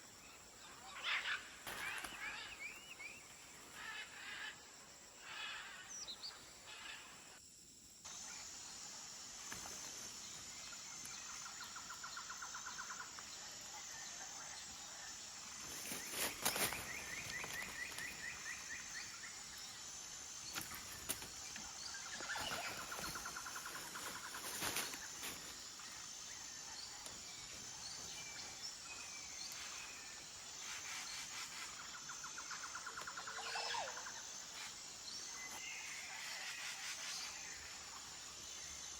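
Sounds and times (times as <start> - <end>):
pulsing insect drone: 0.1 - 38.9.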